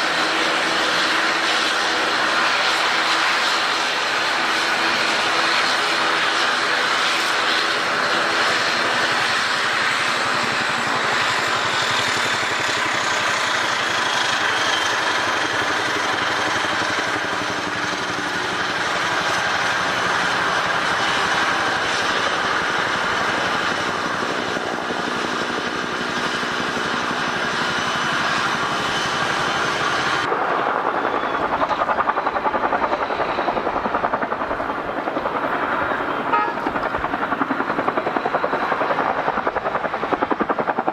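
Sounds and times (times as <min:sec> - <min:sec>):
airliner engines humming: 0:00.0 - 0:40.9.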